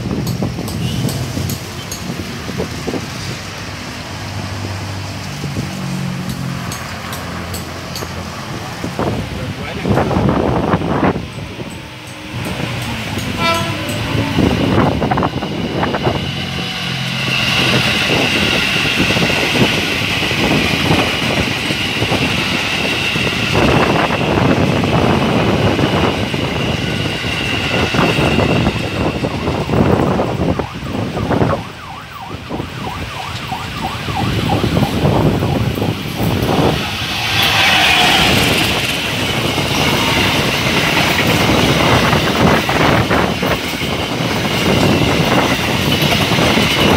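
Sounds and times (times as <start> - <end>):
train wheels clattering over rails: 0.0 - 3.6, 5.5 - 30.0, 35.2 - 46.9
electric train whine: 0.0 - 46.9.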